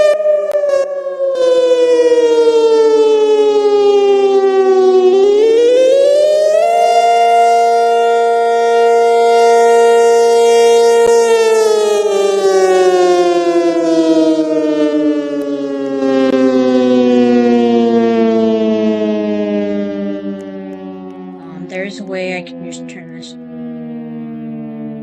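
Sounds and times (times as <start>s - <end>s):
warning siren wailing: 0.0s - 25.0s.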